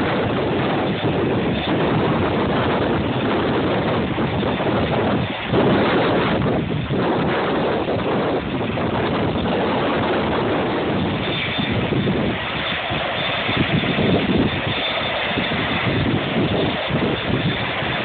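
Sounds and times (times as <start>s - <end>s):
high engine whine: 0.0s - 18.0s
jet engines running: 0.0s - 18.0s
wind buffeting microphone: 0.0s - 18.0s.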